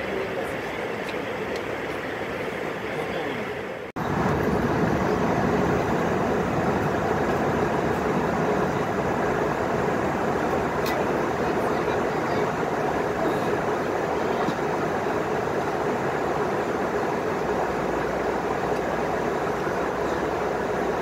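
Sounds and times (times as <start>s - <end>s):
engine hum: 0.0s - 21.0s
airflow rush: 3.4s - 21.0s.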